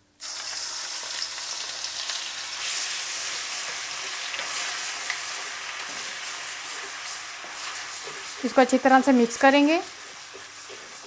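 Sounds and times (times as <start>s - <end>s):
paste sizzling in hot oil: 0.2s - 11.0s
wooden spatula stirring: 1.4s - 11.0s.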